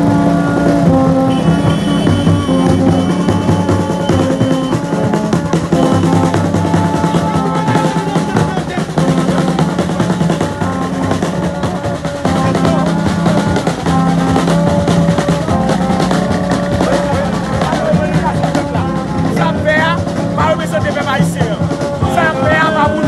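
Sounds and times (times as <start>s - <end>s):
horn blasts: 0.0s - 20.6s
drums beating with rolls: 0.0s - 23.0s.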